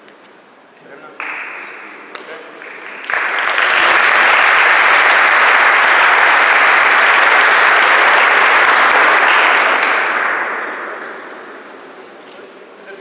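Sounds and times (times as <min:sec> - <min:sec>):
audience applauding: 0:01.2 - 0:12.2.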